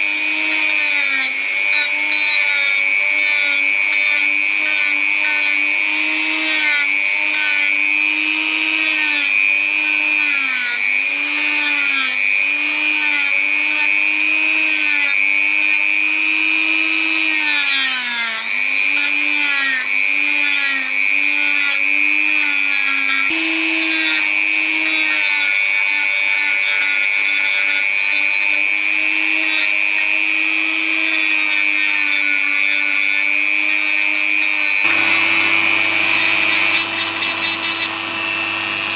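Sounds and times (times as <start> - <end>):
electric saw cutting wood: 0.0 - 38.9.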